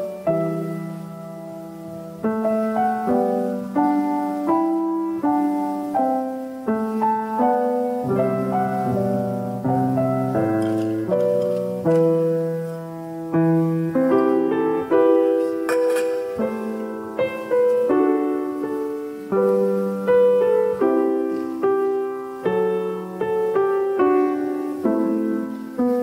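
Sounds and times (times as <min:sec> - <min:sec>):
slow solo piano chords: 0:00.0 - 0:26.0.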